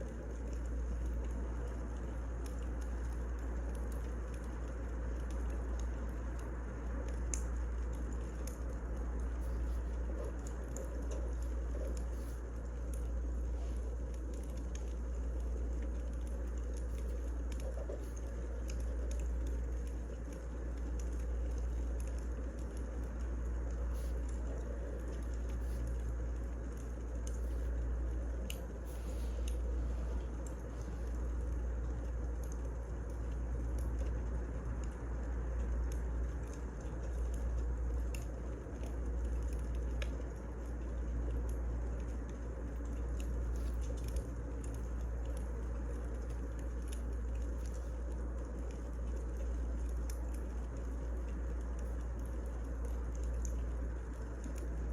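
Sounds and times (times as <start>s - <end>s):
fire pops and crackles: 0.0s - 54.9s
firewood burning: 0.0s - 54.9s.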